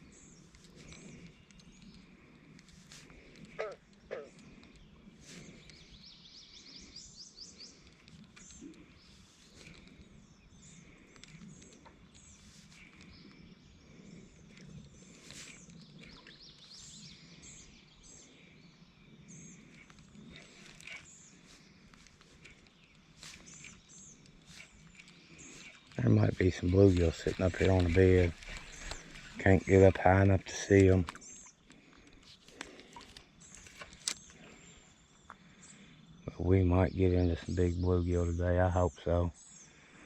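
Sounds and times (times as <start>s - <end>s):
faint birdsong chirps and trills: 0.0s - 40.0s.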